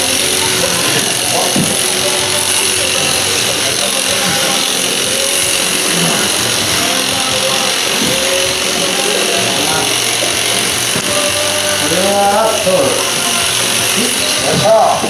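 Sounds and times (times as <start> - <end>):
electric shears clipping fleece: 0.0 - 15.0.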